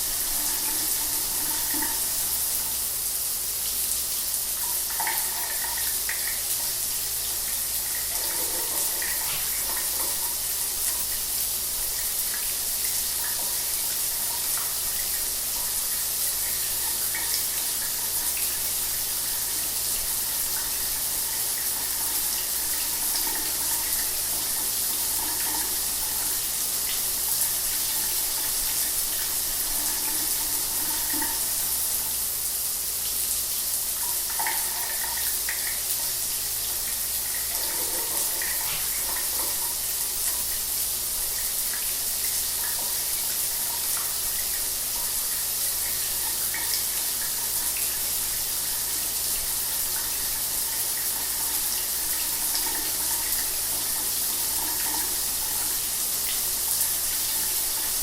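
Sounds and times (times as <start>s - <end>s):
shower water spraying: 0.0s - 58.0s.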